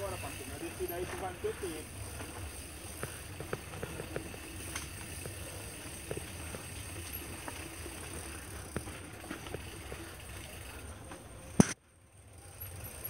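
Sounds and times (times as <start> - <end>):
tyres rumbling on dirt: 0.0 - 11.5
bike clicks and knocks: 0.0 - 11.8.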